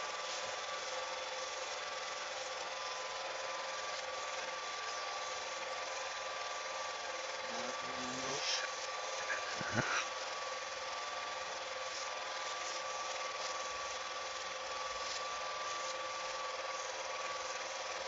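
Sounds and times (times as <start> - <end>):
film projector whirring: 0.0 - 18.0.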